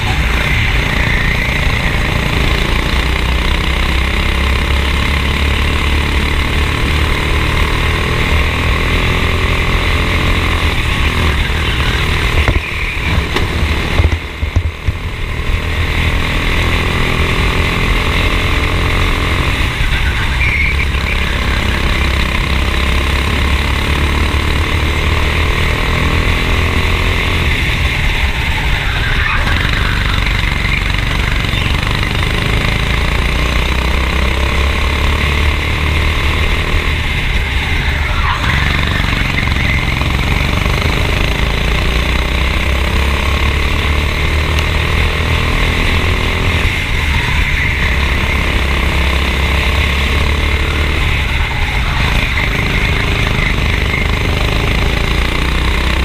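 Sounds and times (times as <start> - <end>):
kart engine at high revs: 0.0 - 56.0.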